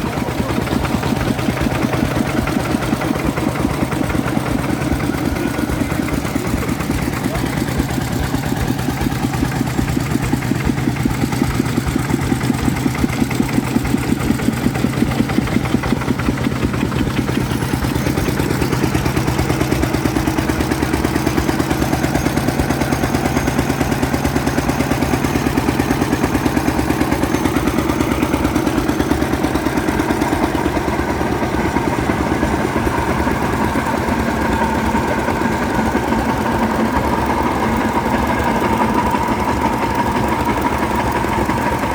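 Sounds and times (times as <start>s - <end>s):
old engine idling: 0.0s - 41.9s.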